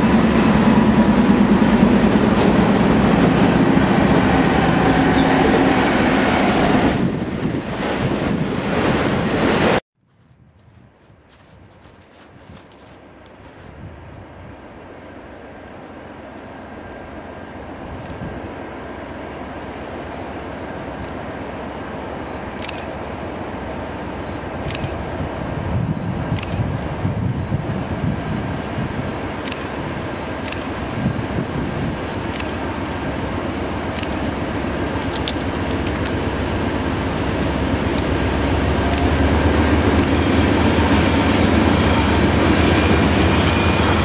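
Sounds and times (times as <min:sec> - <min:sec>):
locomotive engine rumble: 0:00.0 - 0:08.9, 0:11.8 - 0:44.0.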